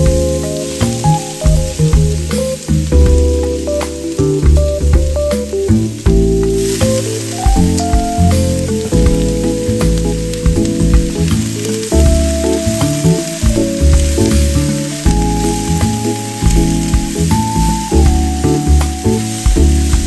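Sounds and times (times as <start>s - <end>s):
background music sustained notes: 0.0s - 20.0s
food sizzling in a wok: 0.0s - 20.0s.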